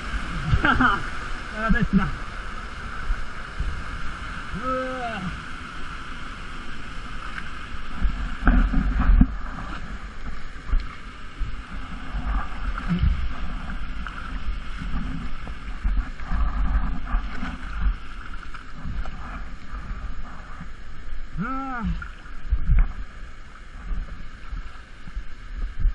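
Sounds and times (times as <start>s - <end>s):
low thumps of water buffeting: 0.0s - 25.9s
water churning and splashing: 0.0s - 25.9s.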